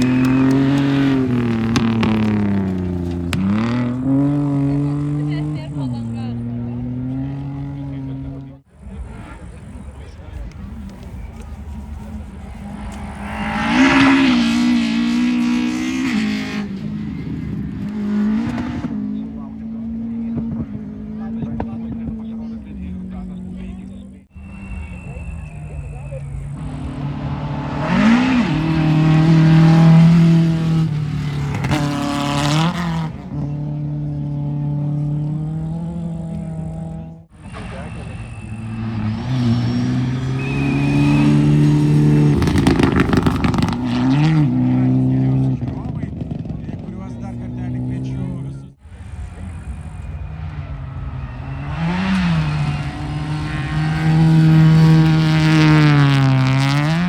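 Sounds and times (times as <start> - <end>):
rally car engine accelerating hard: 0.0 - 57.0.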